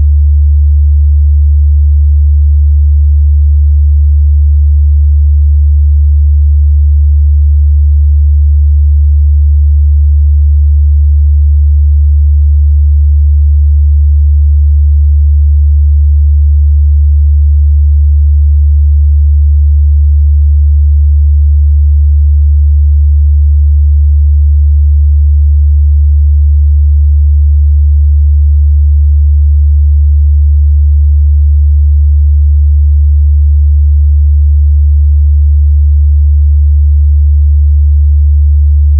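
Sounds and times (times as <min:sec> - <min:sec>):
low sine tone hum: 0:00.0 - 0:38.9.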